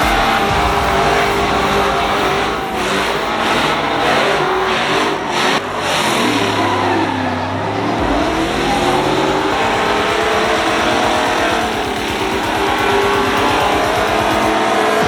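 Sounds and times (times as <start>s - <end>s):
truck engine at high revs: 0.0s - 15.0s
tyres spinning on pavement: 0.0s - 15.0s.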